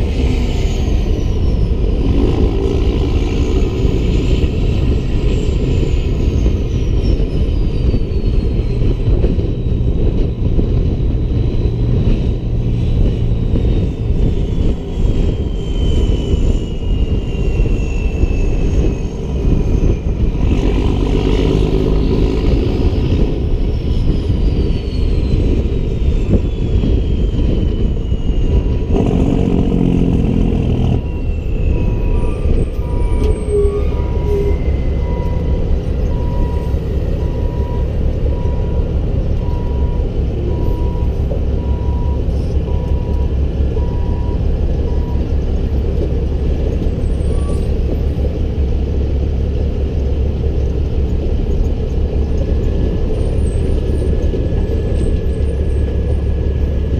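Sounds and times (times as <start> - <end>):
truck diesel engine rumble: 0.0 - 56.9.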